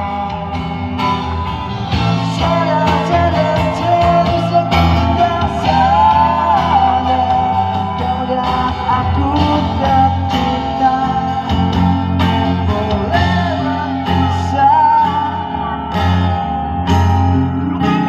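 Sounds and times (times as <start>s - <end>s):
steady bass line: 0.0s - 18.0s
strummed acoustic guitar: 0.0s - 18.0s
man singing into a microphone: 2.0s - 16.2s, 17.3s - 18.0s.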